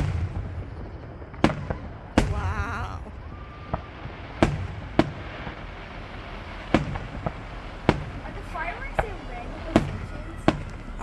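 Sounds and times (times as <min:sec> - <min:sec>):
faint firework pops: 0:00.0 - 0:11.0
firework booms with rumble: 0:00.0 - 0:11.0.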